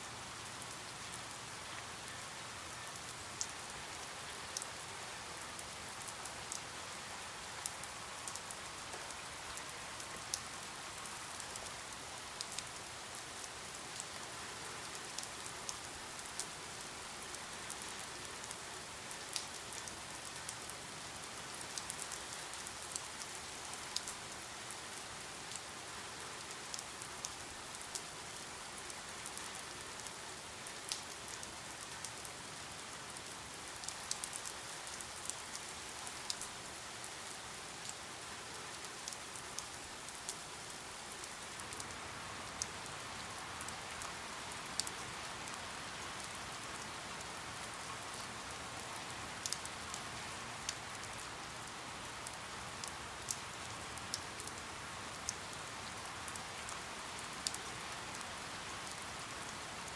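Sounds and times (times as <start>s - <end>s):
rain drops ticking on hard surface: 0.4s - 59.9s.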